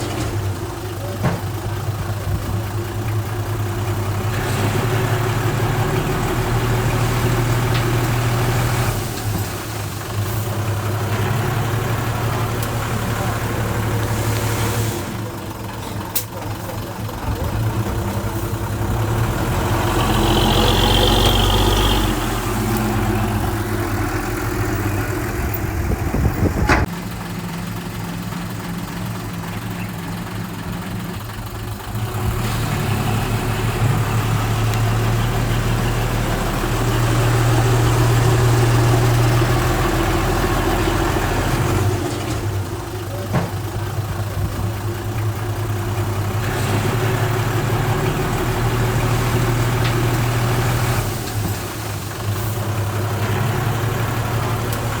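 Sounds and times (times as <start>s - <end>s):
diesel engine of earthmover: 0.0s - 55.0s.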